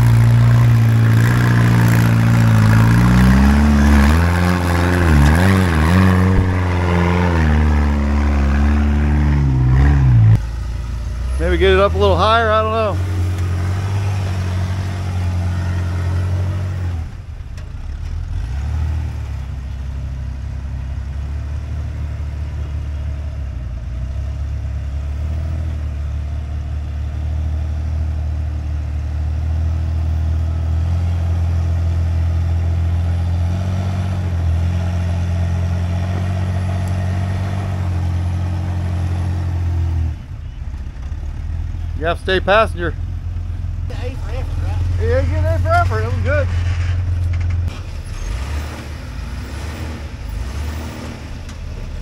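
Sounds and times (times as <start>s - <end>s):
engine running at low revs: 0.0s - 52.0s.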